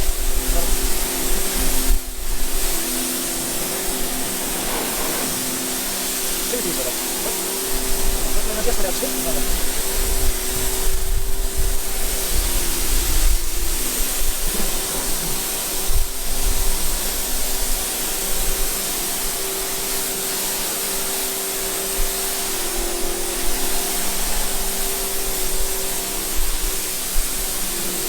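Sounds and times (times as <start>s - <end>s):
cleaning machine hissing and humming: 0.0s - 28.0s.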